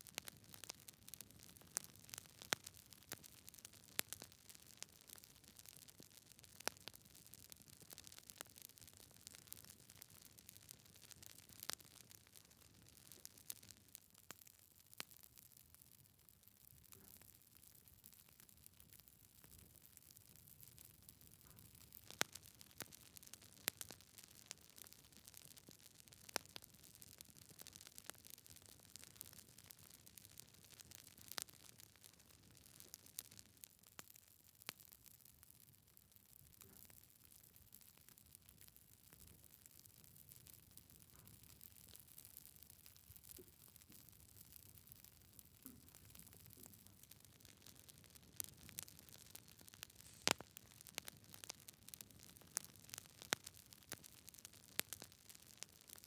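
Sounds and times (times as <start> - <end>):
logs crackling in a fireplace: 0.0 - 56.0.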